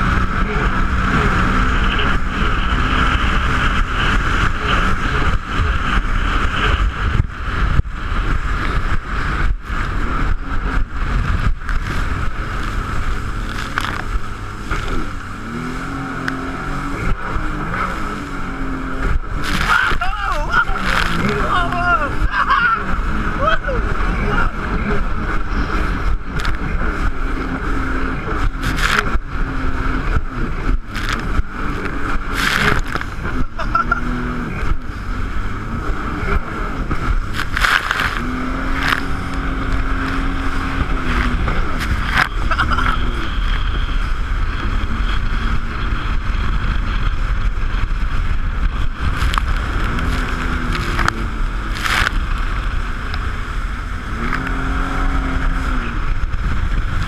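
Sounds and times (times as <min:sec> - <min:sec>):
jet ski engine revving: 0:00.0 - 0:57.0
steady rushing noise: 0:00.0 - 0:57.0.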